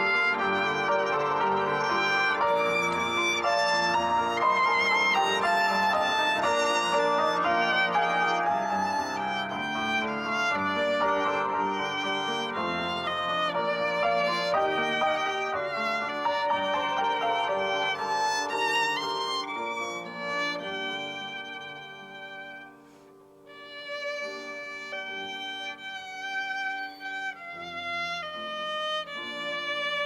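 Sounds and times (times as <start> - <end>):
violin melody with vibrato: 0.0 - 30.0.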